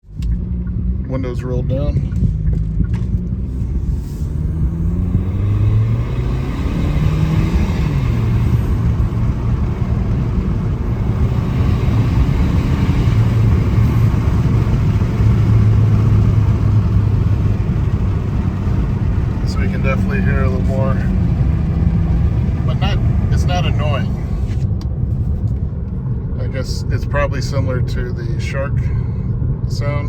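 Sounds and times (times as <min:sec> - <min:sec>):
turbocharged car engine running: 0:00.0 - 0:24.8
road noise: 0:00.0 - 0:30.0.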